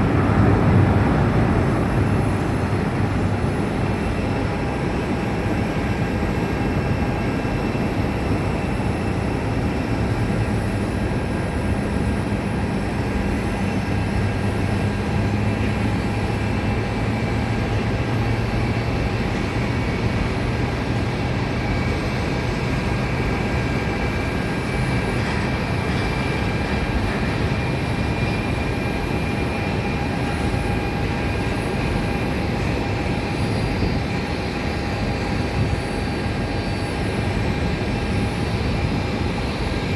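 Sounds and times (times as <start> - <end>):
jet engines rushing and whining: 0.0 - 39.9.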